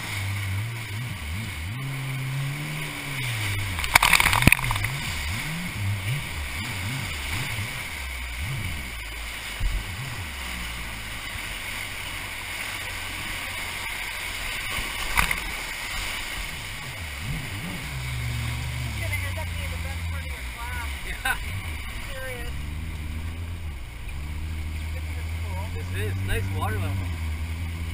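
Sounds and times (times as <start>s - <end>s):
jet ski engine revving: 0.0s - 27.9s
rushing whitewater: 0.0s - 27.9s.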